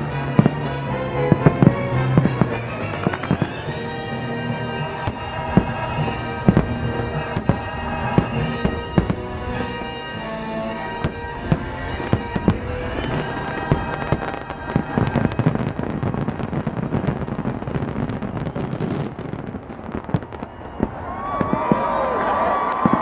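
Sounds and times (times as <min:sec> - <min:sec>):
fireworks show music: 0:00.0 - 0:23.0
firework shell bursts and crackling: 0:00.1 - 0:10.2, 0:10.8 - 0:23.0.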